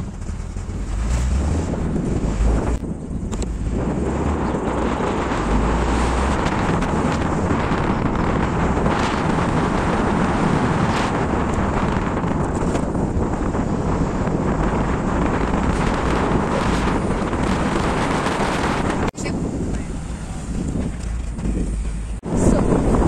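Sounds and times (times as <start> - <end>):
truck road noise: 0.0 - 23.0
wind noise on microphone: 0.0 - 23.0.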